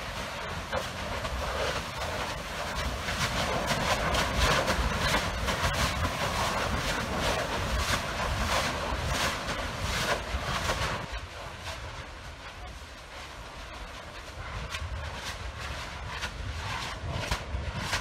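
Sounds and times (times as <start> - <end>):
lava fountain rumble and roar: 0.0 - 18.0.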